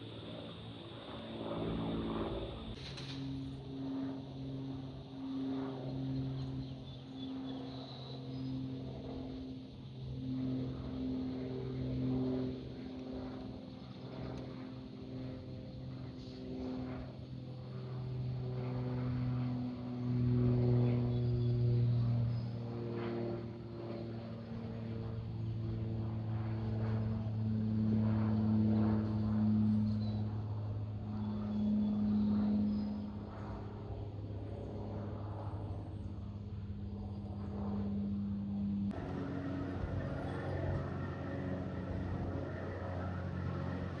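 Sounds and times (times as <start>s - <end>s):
aircraft engines droning: 0.0s - 44.0s.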